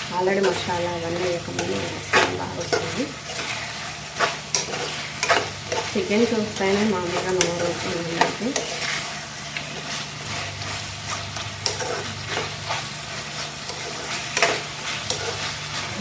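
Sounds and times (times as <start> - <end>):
curry sizzling in a pan: 0.0 - 16.0
spoon scraping a pan: 0.3 - 16.0.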